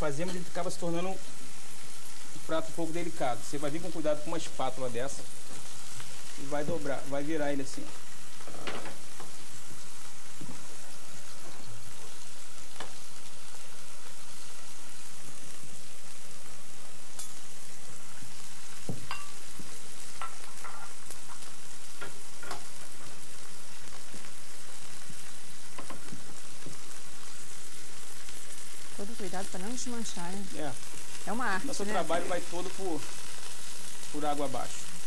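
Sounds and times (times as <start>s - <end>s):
crepes sizzling in oil: 0.0s - 35.0s.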